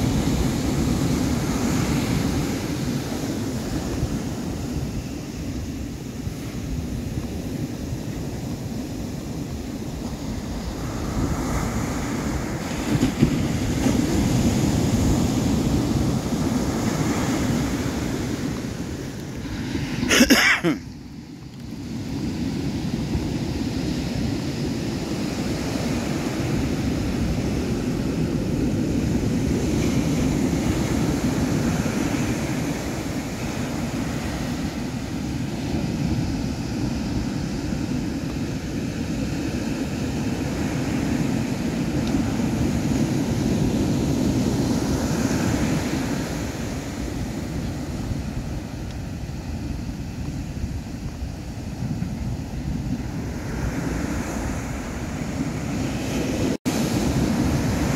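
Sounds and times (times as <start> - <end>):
wind buffeting microphone: 0.0 - 20.1, 20.8 - 57.9
ocean surf breaking: 0.0 - 57.9.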